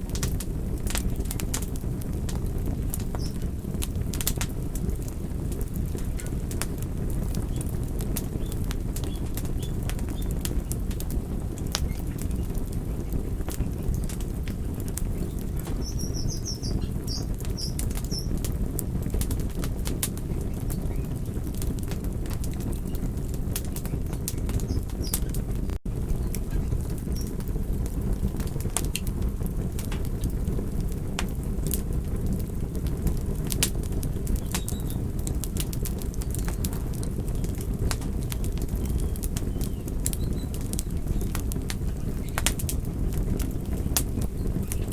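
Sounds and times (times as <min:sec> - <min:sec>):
burning wood crackling and popping: 0:00.0 - 0:44.9
campfire flames rumbling: 0:00.0 - 0:44.9.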